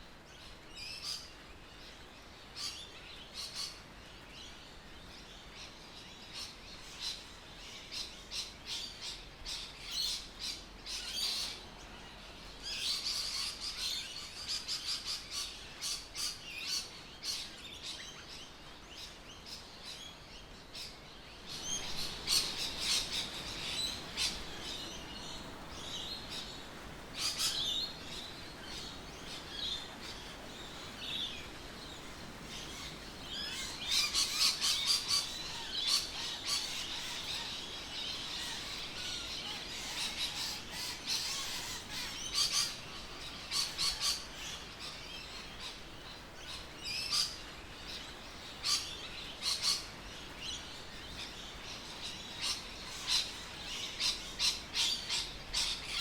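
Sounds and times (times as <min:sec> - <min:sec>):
birds chirping and calling: 0:00.5 - 0:56.0.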